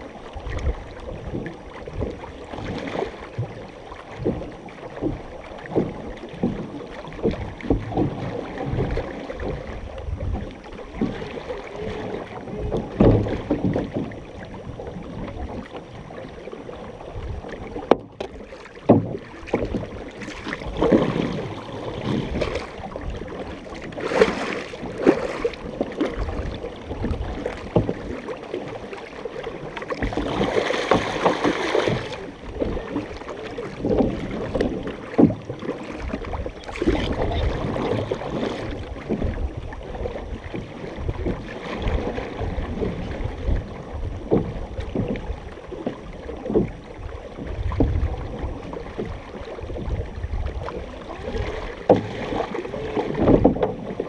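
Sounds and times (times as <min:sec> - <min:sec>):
paddles splashing in water: 0:00.0 - 0:54.0
water sloshing along hull: 0:00.0 - 0:54.0.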